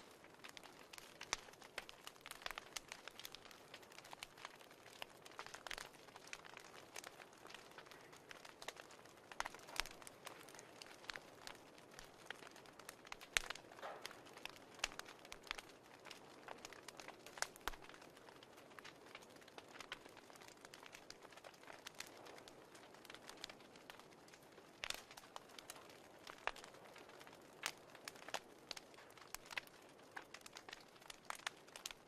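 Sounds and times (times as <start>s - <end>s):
fireplace crackling: 0.0s - 32.0s.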